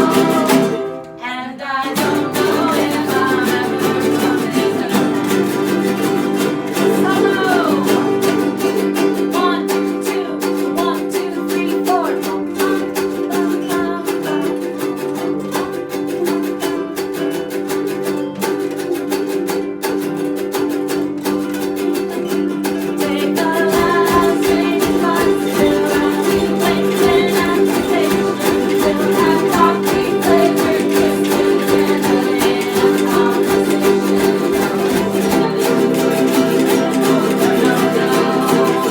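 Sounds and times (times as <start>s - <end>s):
ukulele strumming chords: 0.0s - 38.9s.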